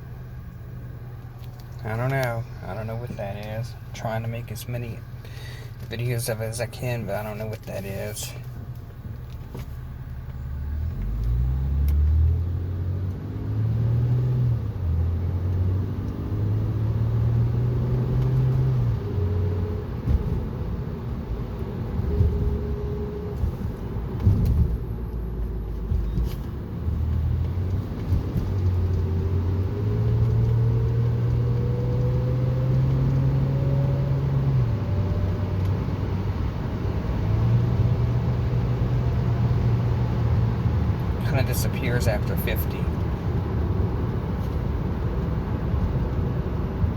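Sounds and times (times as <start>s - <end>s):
car engine driving: 0.0s - 46.9s.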